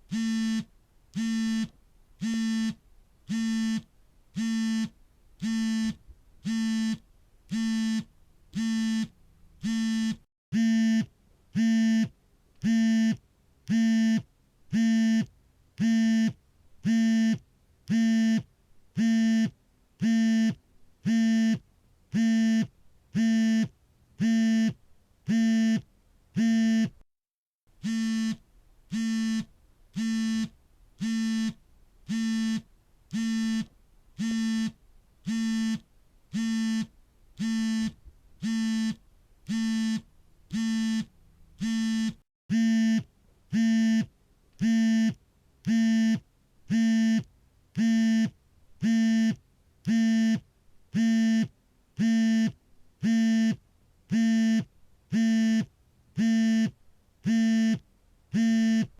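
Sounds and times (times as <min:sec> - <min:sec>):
phone vibrating: 0:00.1 - 0:21.6, 0:27.8 - 0:50.4, 0:51.0 - 0:57.8, 0:58.4 - 0:58.9.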